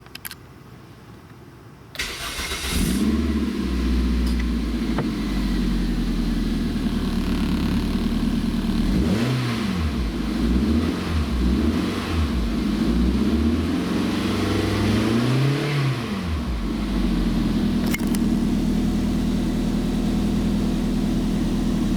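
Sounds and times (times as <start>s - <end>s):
engine idling and revving: 2.3s - 21.9s.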